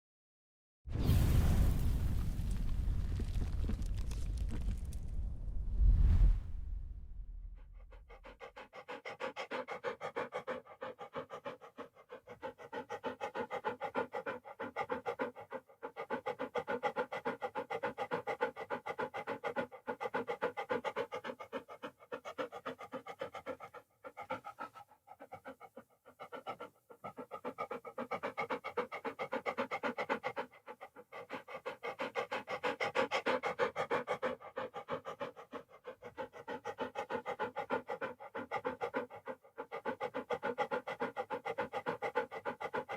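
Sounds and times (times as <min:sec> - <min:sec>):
dog panting rapidly: 0:07.7 - 0:42.9.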